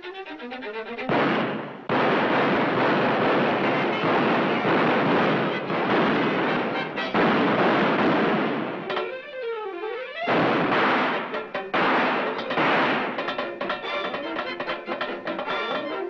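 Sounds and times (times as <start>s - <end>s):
music: 0.0s - 16.0s
cartoon gunfire: 1.0s - 9.4s, 10.1s - 16.0s.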